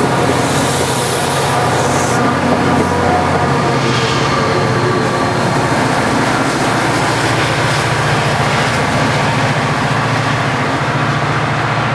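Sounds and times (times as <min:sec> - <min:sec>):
diesel locomotive engine drone: 0:00.0 - 0:11.9
train passing: 0:00.0 - 0:11.9.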